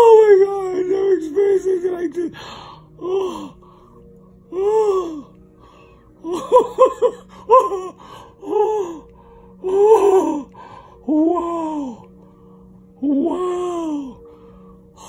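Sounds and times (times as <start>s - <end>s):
man moaning and gasping: 0.0s - 5.4s, 6.2s - 12.1s, 12.9s - 14.7s.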